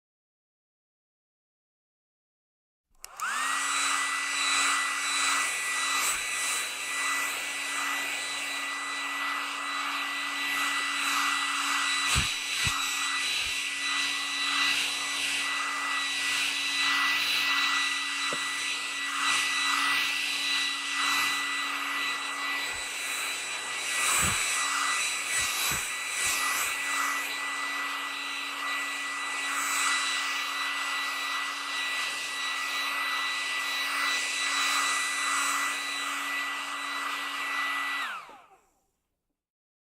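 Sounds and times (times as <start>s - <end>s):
hair dryer whining: 2.9s - 39.2s.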